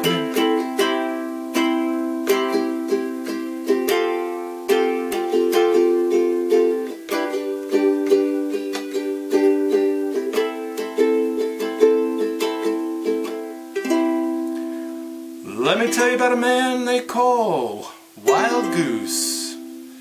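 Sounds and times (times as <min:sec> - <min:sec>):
ukulele strumming: 0:00.0 - 0:20.0.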